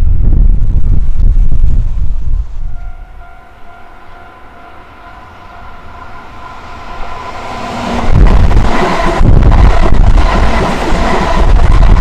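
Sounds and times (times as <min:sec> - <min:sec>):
electric train whine: 0:00.0 - 0:12.0
train wheels rumbling: 0:00.0 - 0:12.0.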